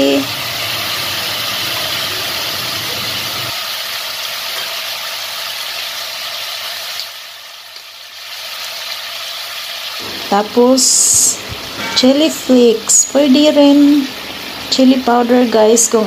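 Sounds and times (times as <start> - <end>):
meat frying in a pot: 0.0 - 16.0.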